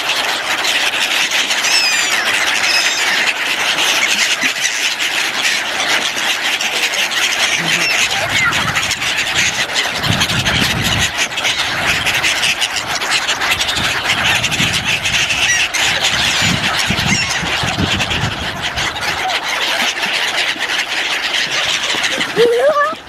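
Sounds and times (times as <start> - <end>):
large flock of birds calling: 0.0 - 23.0.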